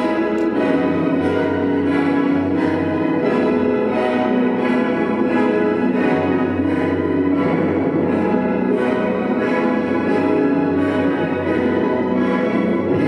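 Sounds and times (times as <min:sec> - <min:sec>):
orchestral music: 0:00.0 - 0:13.0.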